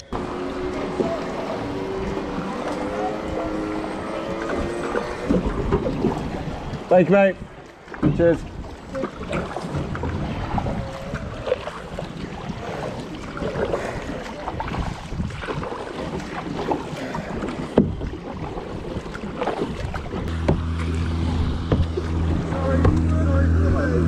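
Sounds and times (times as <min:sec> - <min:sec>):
paddle splashes: 0:00.0 - 0:24.0
water sloshing around hull: 0:00.0 - 0:24.0
wind buffeting microphone: 0:04.2 - 0:24.0.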